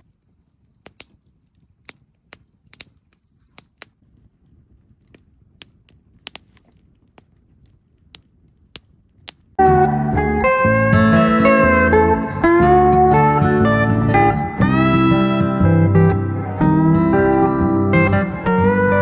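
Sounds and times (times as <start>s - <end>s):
campfire crackling and popping: 0.0s - 10.8s, 11.4s - 19.0s.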